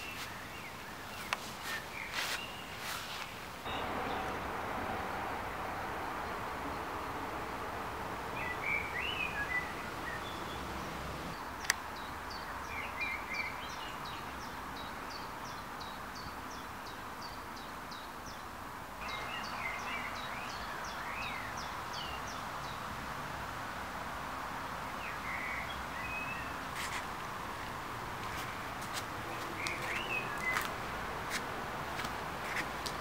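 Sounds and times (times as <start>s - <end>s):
small birds chirping: 0.0s - 22.9s, 24.9s - 33.0s
steady background hiss: 0.0s - 33.0s.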